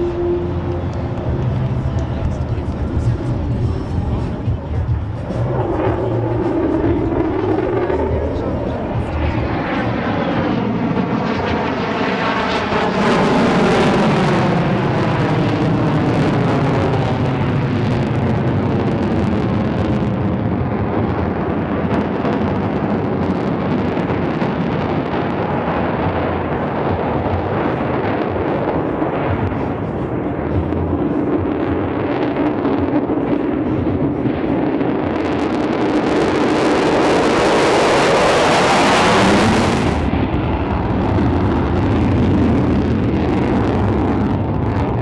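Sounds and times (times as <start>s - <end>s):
fighter jet flying past: 0.0s - 45.0s.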